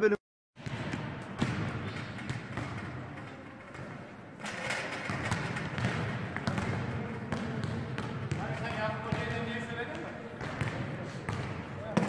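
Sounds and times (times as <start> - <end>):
balls struck or bouncing: 0.6 - 4.0, 5.0 - 12.0
echoing sports hall din: 0.6 - 12.0.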